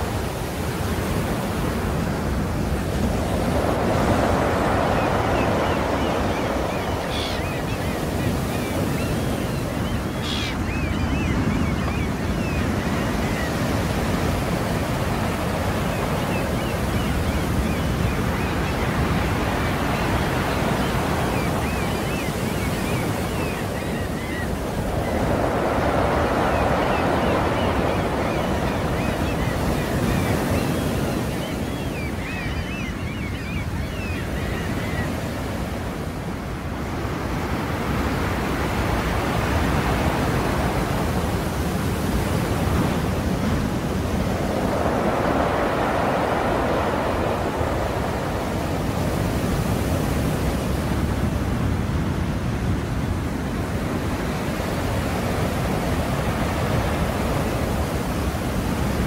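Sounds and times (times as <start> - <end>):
waves washing ashore: 0.0 - 59.0.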